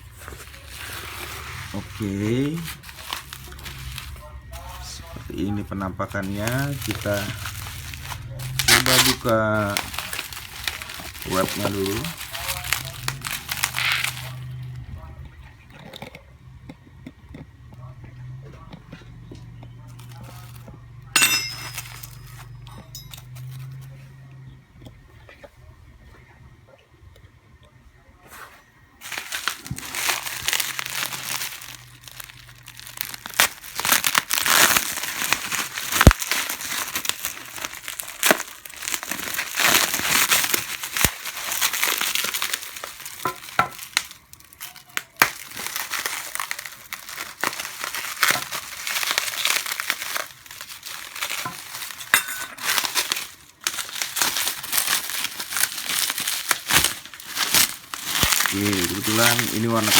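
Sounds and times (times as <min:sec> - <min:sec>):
packaging wrap crinkling: 0:00.0 - 0:16.2, 0:19.3 - 0:24.1, 0:28.3 - 0:59.9.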